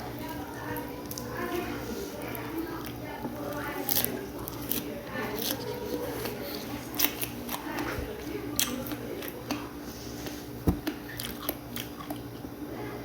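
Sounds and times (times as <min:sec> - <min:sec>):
chewing and biting: 0:00.2 - 0:12.5.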